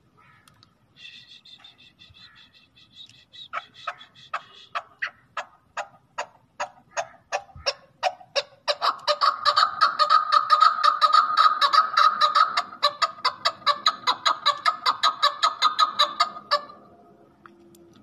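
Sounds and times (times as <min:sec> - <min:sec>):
partridge chuck calls: 0:00.2 - 0:16.8.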